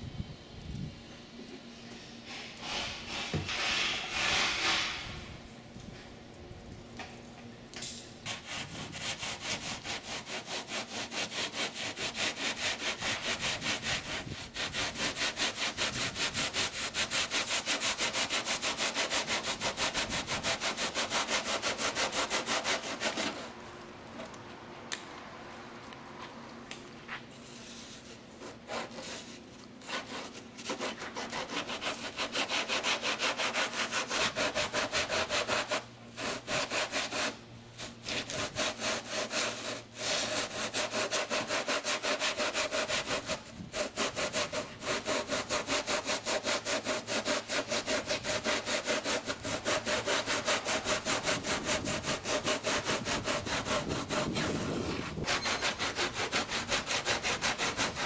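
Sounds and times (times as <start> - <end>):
hand saw cutting foam: 2.4 - 5.0, 8.3 - 23.6, 27.5 - 58.0.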